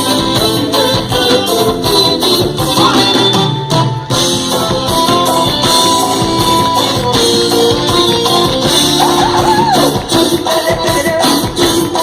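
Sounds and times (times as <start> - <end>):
live band instrumental music: 0.0 - 12.0.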